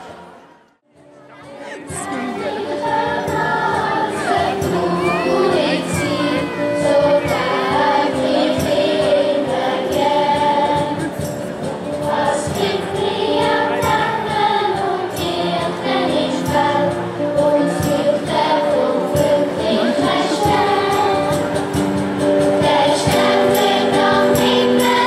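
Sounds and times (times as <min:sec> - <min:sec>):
children's choir singing: 0:01.3 - 0:25.0.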